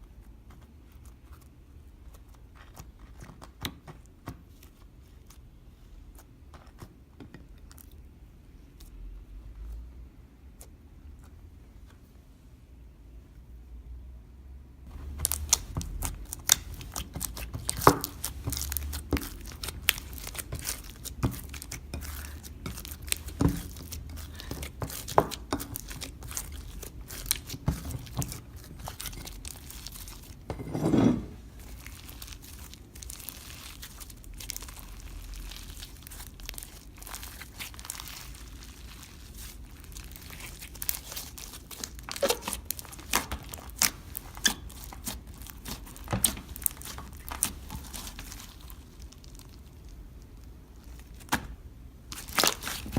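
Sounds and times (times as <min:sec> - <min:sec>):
slime squishing by hand: 0:00.0 - 0:12.1, 0:14.9 - 0:30.5, 0:31.4 - 0:52.9.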